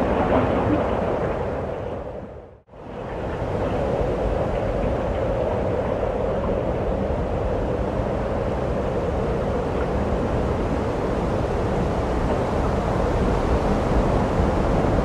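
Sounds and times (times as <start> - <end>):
surf washing: 0.0 - 15.0
wind over microphone: 0.0 - 15.0.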